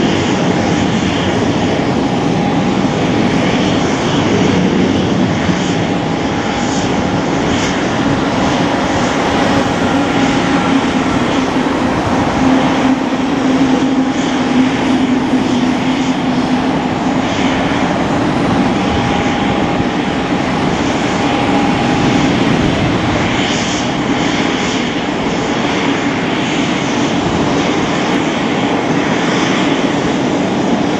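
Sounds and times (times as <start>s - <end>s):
aircraft engines deep drone: 0.0s - 30.9s
turbine whine: 0.0s - 30.9s.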